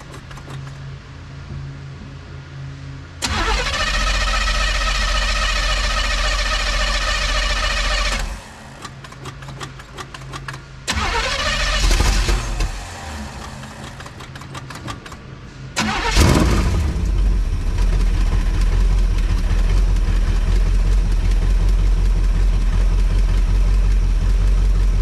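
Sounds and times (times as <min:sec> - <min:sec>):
engine cranking by starter: 0:00.0 - 0:00.8, 0:03.2 - 0:25.0.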